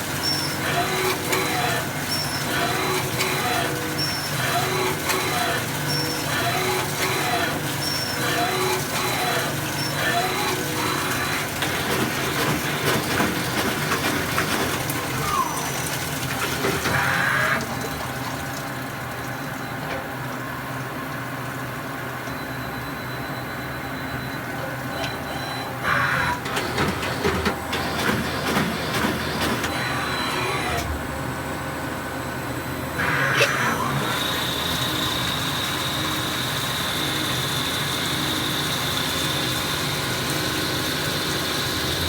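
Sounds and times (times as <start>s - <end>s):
lathe machine hum: 0.0s - 19.1s, 25.7s - 42.0s.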